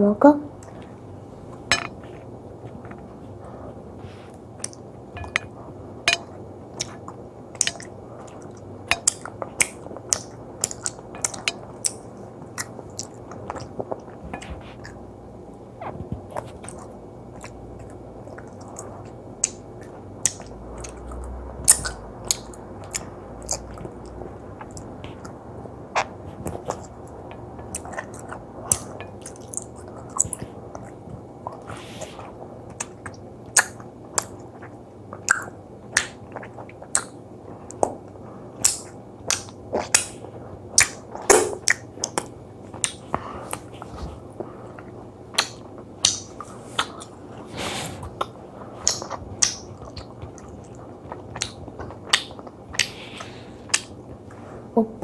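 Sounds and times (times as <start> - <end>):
chewing gummy jelly: 6.7 - 15.0, 15.8 - 47.4, 48.0 - 54.4.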